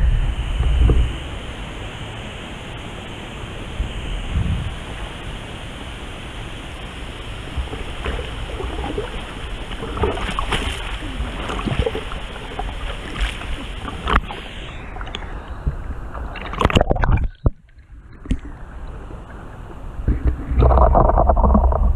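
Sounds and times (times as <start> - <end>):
low rumble of water: 0.0 - 21.9
steady rush of water: 0.0 - 21.9
water splashing and sloshing: 4.3 - 21.9.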